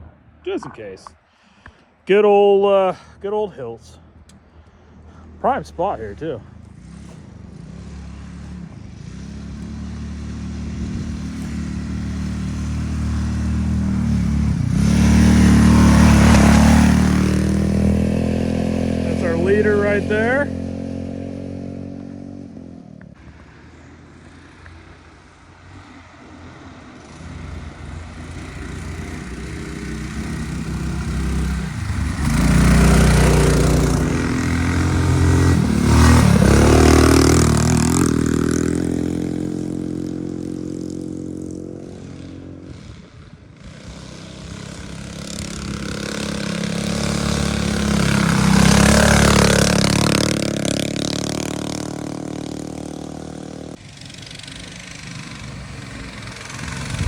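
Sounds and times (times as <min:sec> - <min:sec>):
minibike engines passing: 0:02.4 - 0:57.0.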